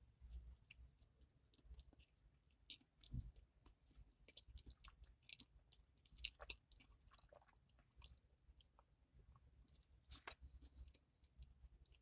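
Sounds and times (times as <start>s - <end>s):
man chewing with wet smacks: 0.2s - 12.0s.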